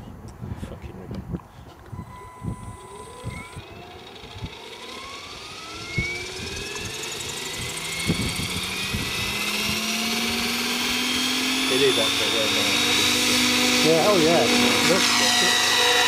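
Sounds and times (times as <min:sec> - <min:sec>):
model helicopter motor whine: 0:01.7 - 0:16.0.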